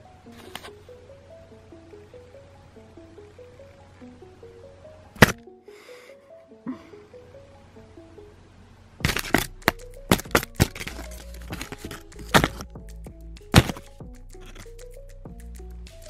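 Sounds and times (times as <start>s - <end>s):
background music with simple melody: 0.0s - 16.0s.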